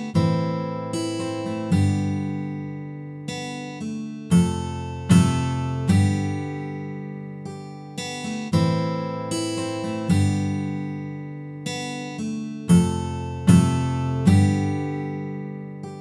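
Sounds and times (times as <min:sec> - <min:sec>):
guitar chords ringing out: 0:00.0 - 0:16.0.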